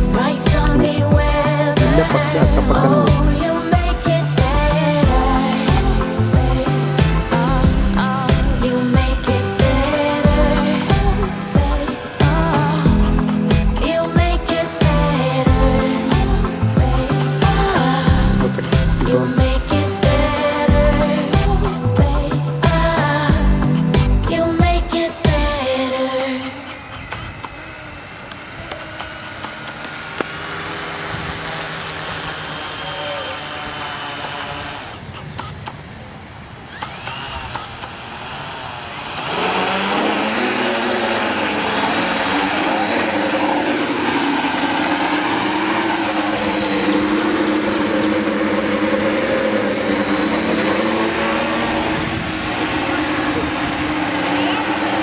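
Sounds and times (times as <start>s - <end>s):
electric motors and propellers whirring: 0.0s - 55.0s.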